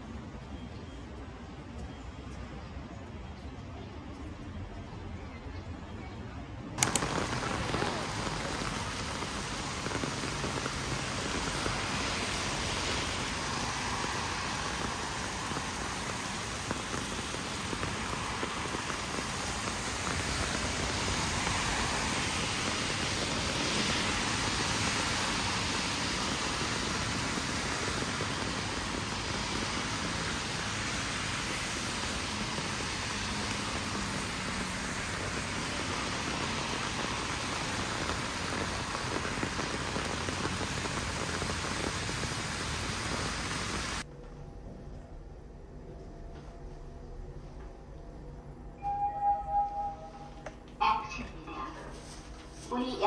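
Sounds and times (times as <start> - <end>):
rain falling on wet street: 0.0 - 6.0, 6.8 - 44.1.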